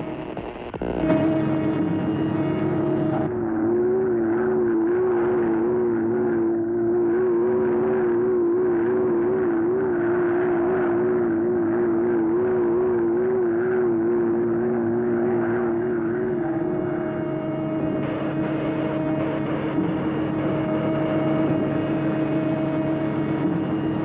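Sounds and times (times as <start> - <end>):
lower steady hum: 0.0 - 24.0
wobbling mechanical engine hum: 0.8 - 24.0.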